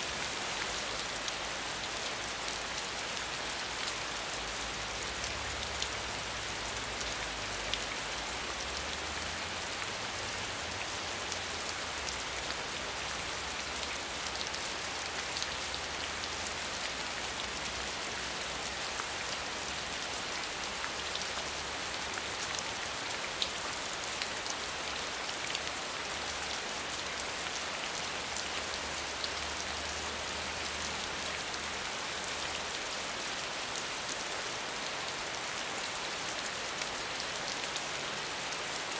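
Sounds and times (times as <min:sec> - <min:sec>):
rain hissing on ground: 0:00.0 - 0:38.9.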